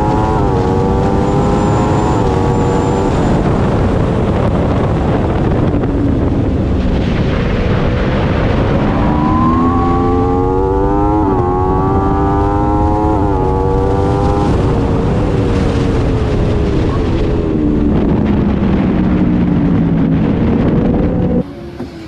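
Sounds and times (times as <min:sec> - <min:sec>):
motorcycle engine accelerating: 0:00.0 - 0:22.0
wind rush: 0:00.0 - 0:22.0.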